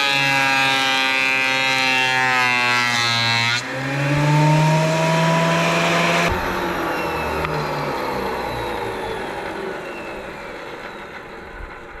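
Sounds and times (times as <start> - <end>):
planer motor spinning down: 0.0 - 12.0.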